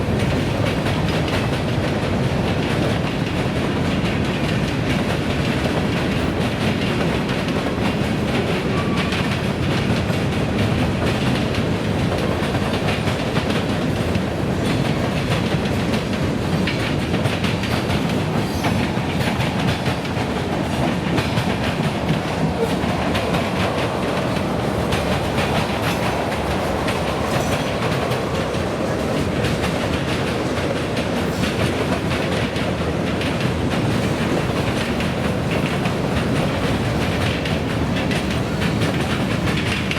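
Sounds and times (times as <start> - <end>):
freight train cars rolling: 0.0 - 39.9
wheels clacking over track joints: 0.0 - 39.9.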